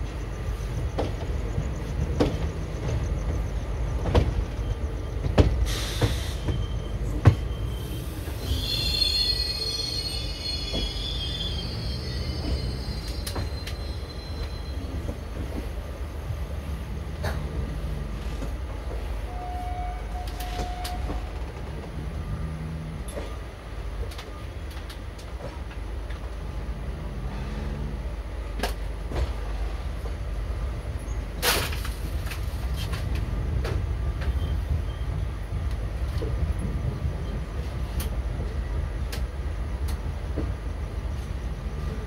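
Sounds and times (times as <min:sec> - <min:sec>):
train coach rumbling on track: 0:00.0 - 0:42.0.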